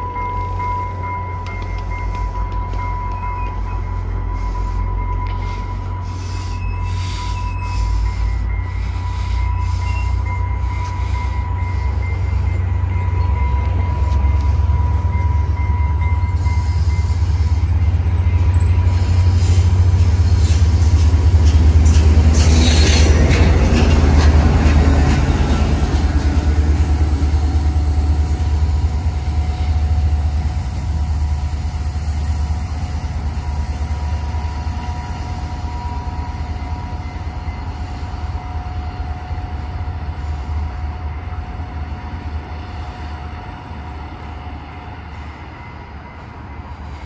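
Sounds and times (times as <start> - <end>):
diesel locomotive rumble: 0.0 - 47.0.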